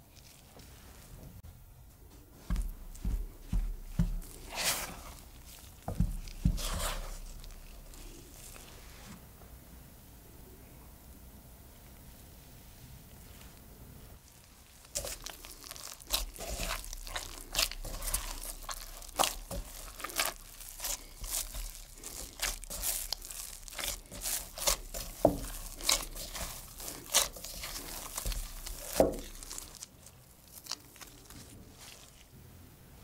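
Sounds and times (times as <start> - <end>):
dough being kneaded: 0.0 - 9.2, 14.2 - 32.4.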